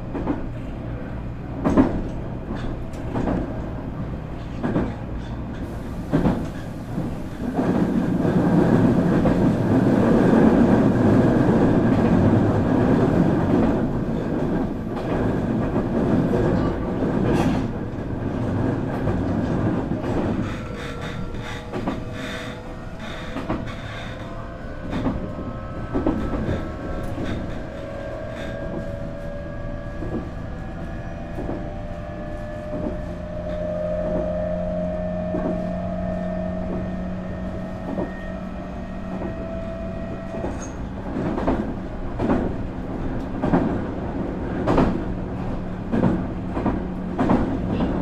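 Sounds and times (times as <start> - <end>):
train car rumble: 0.0 - 48.0.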